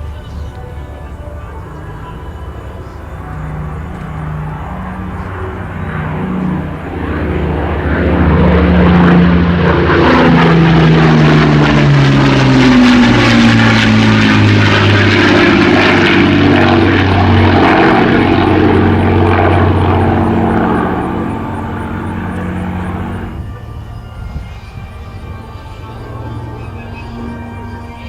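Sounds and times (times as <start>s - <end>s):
propeller aircraft fly-by: 0.0s - 28.0s.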